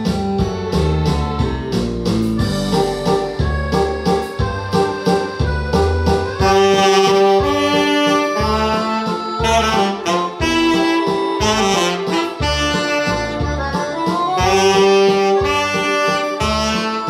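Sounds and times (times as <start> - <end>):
keyboard accompaniment with bass: 0.0 - 17.0
saxophone melody: 2.4 - 17.0.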